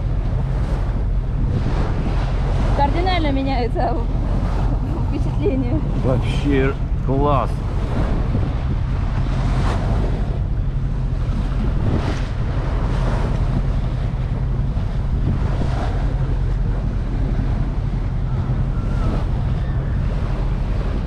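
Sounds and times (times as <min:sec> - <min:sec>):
motorboat engine drone: 0:00.0 - 0:21.0
water rushing past hull: 0:00.0 - 0:21.0
wind buffeting microphone: 0:00.0 - 0:21.0.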